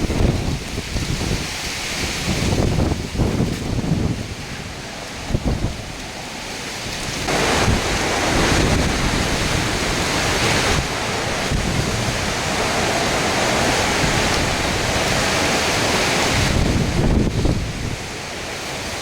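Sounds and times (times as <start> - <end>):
heavy rain: 0.0 - 19.0
hurricane wind gusting: 0.0 - 19.0
wind buffeting microphone: 0.0 - 19.0.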